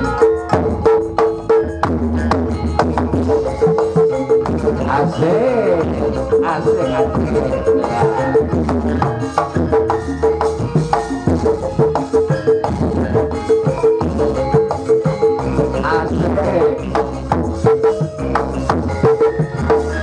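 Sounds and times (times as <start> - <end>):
gamelan ensemble playing: 0.0 - 20.0.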